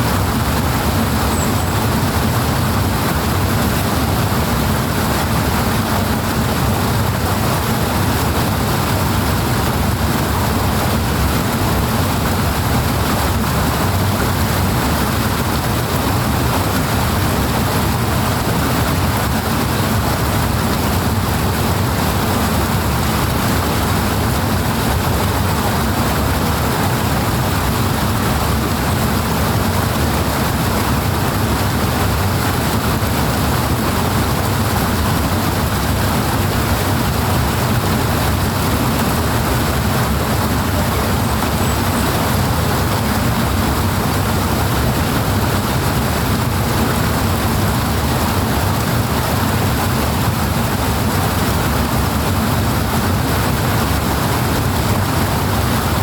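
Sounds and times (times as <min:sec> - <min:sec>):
rushing water roar: 0:00.0 - 0:56.0.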